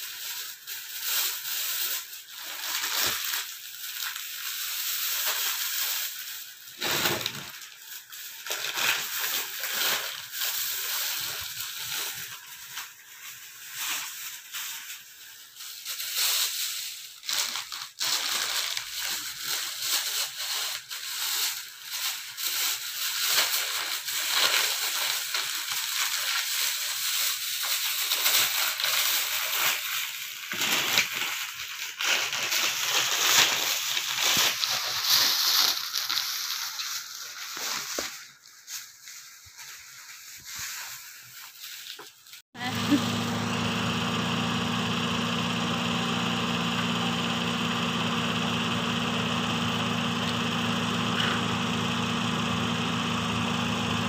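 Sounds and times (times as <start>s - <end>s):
plastic bags crinkling: 0.0s - 54.0s.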